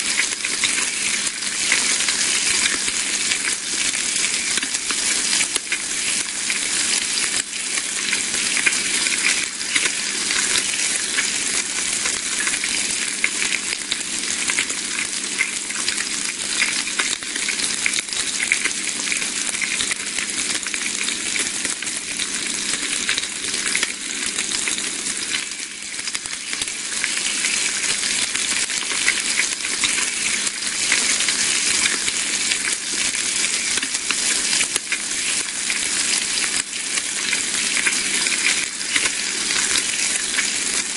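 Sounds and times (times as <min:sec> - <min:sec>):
bacon sizzling in a pan: 0:00.0 - 0:40.9.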